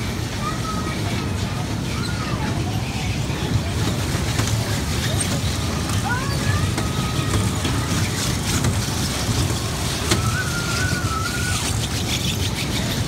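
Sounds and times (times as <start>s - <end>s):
indoor arcade noise: 0.0s - 13.0s
toy car ride rumbling: 0.0s - 13.0s.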